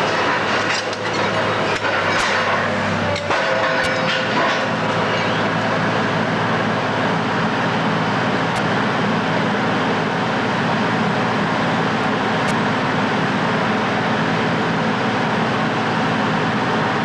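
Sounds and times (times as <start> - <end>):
demolition machinery noise: 0.0 - 17.0
diesel engine under load: 0.0 - 17.0.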